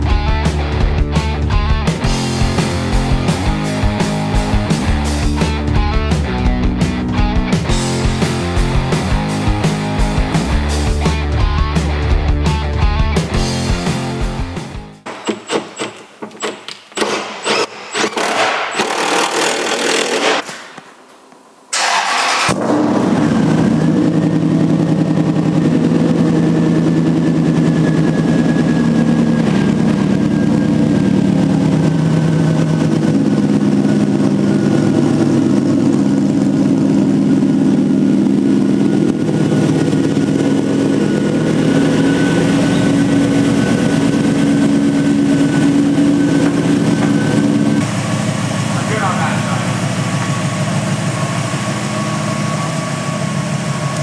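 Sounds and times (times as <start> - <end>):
truck engine droning: 0.0 - 15.1, 21.8 - 54.0.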